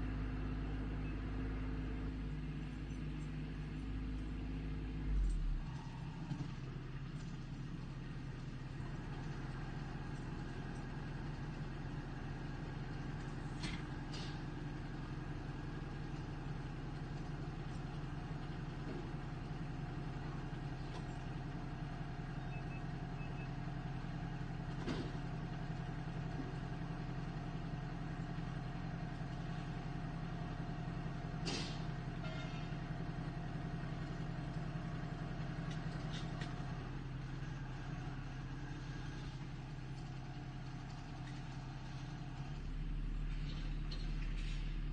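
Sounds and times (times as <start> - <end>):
backhoe engine running: 0.0 - 44.9.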